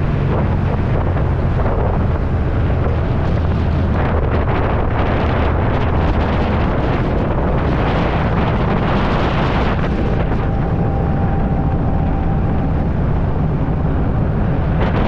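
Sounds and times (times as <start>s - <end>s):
dune buggy engine running: 0.0s - 15.0s
wind buffeting microphone: 0.0s - 15.0s.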